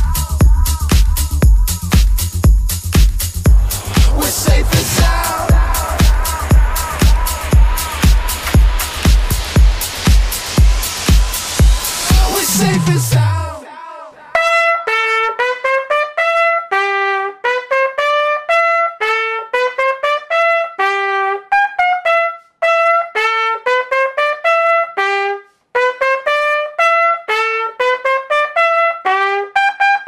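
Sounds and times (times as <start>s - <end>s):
solo trumpet playing: 3.4s - 13.6s, 14.3s - 30.0s.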